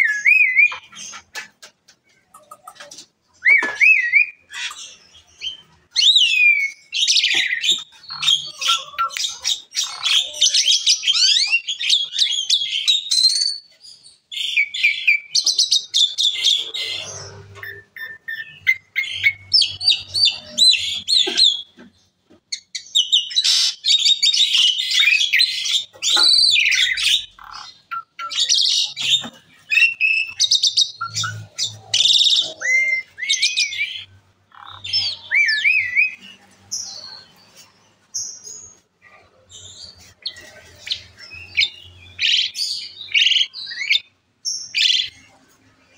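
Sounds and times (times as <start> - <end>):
starling singing: 0.0 - 45.8.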